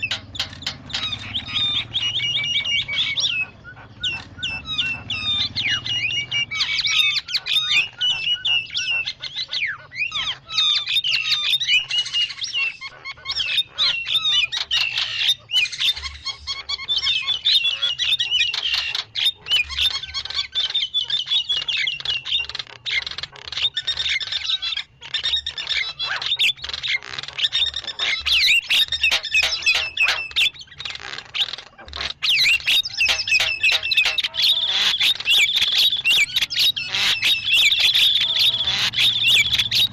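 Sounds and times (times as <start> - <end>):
starlings chattering and whistling: 0.0 - 39.9.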